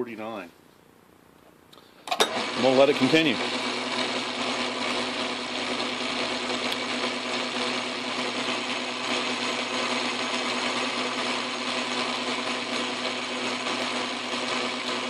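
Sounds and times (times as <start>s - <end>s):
lathe motor whine: 2.2s - 15.0s.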